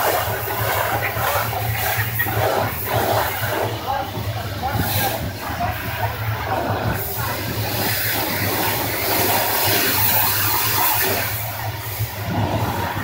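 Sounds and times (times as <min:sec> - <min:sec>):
pressure washer spraying: 0:00.0 - 0:13.0.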